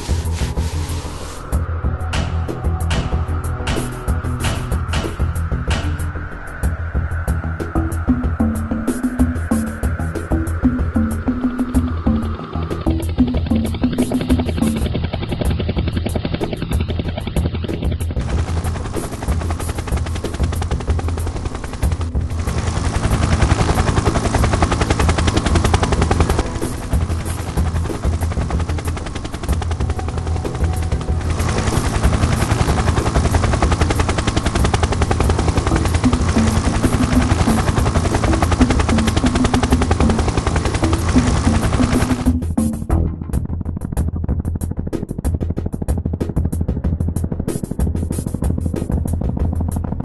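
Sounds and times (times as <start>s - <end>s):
helicopter rotor blades chopping: 0.0s - 50.0s.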